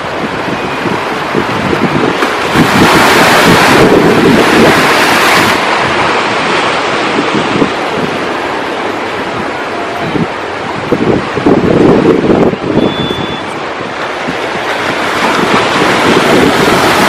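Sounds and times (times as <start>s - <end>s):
wave breaking and washing up: 0.0s - 17.0s
wind buffeting microphone: 0.0s - 17.0s.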